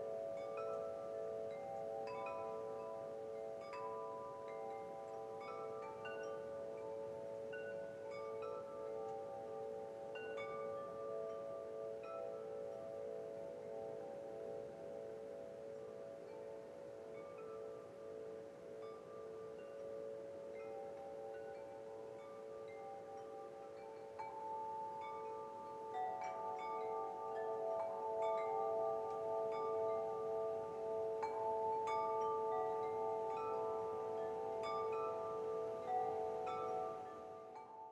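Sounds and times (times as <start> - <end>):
wind chimes ringing: 0.0 - 37.9.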